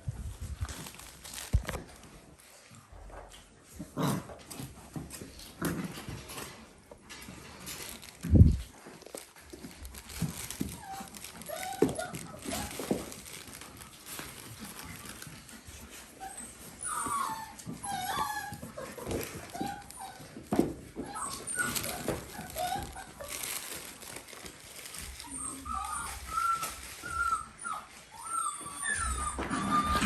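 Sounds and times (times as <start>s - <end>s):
scuffling and knocks: 0.0s - 3.8s, 4.4s - 27.5s
puppies whimpering and squeaking: 4.5s - 30.0s.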